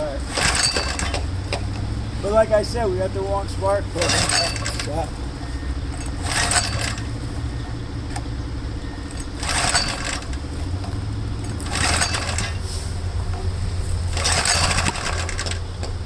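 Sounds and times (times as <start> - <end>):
two-stroke engine running roughly: 0.0 - 16.0.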